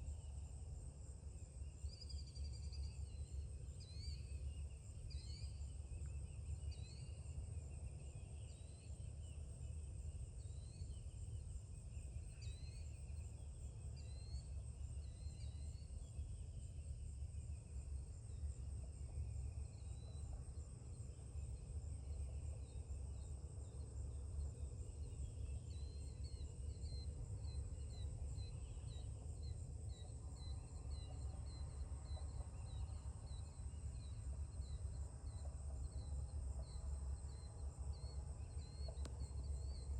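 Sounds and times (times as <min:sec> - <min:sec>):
low steady rumble: 0:00.0 - 0:39.9.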